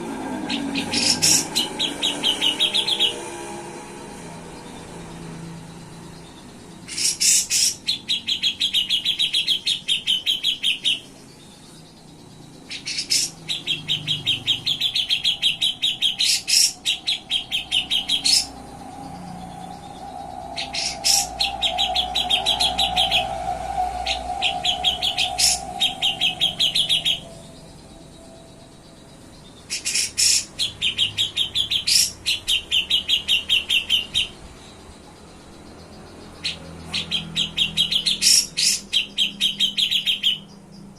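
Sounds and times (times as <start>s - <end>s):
bird trilling chatter: 0.1s - 3.4s, 4.1s - 34.4s, 35.2s - 40.7s.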